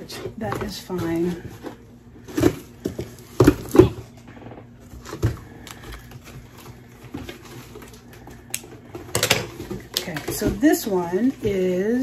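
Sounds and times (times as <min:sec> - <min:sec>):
cardboard and clothing rustling: 0:00.0 - 0:12.0.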